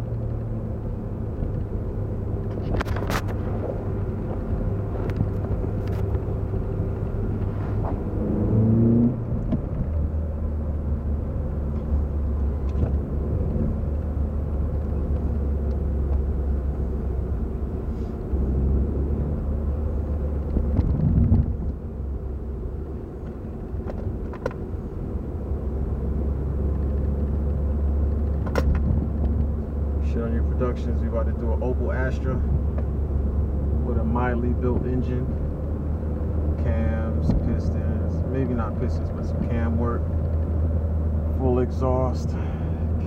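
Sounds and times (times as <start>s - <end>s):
car engine running: 0.0s - 43.0s
low road rumble: 0.0s - 43.0s.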